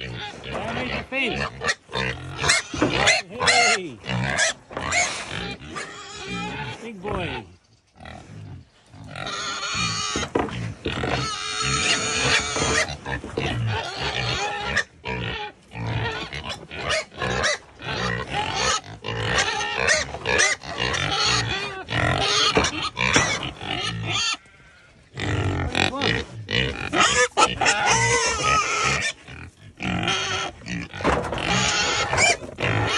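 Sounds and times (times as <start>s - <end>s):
pigs grunting: 0.0s - 32.9s.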